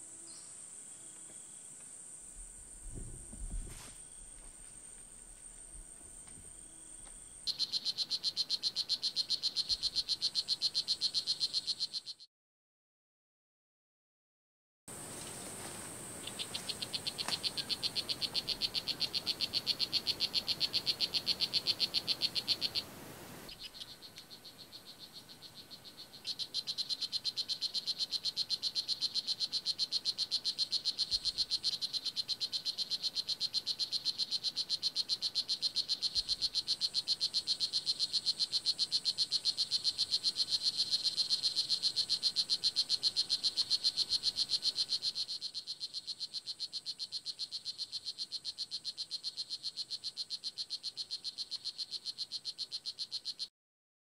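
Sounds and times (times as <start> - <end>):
frog calling buzzing trill: 3.7 - 12.3, 16.2 - 53.5.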